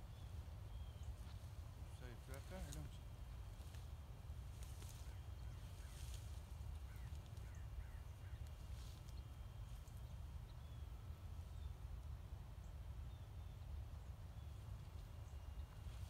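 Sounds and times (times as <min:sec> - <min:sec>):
rustling in dry grass: 0:00.0 - 0:12.0, 0:13.6 - 0:16.0.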